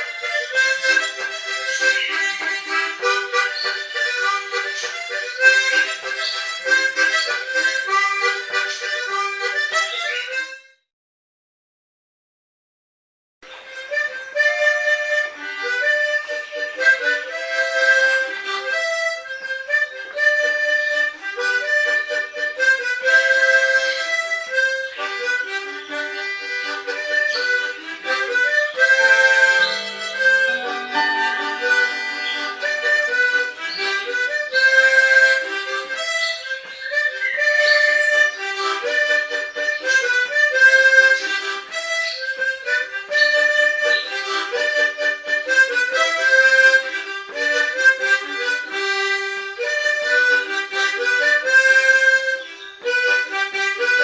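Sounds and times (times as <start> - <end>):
harmonica playing: 0.0 - 10.9, 13.5 - 54.0.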